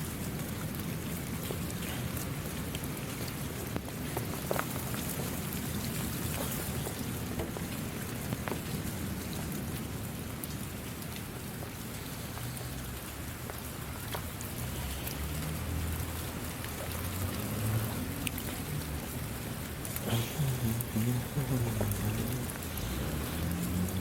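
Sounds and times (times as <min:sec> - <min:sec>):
raindrops ticking: 0:00.0 - 0:24.0
steady rain falling: 0:00.0 - 0:24.0.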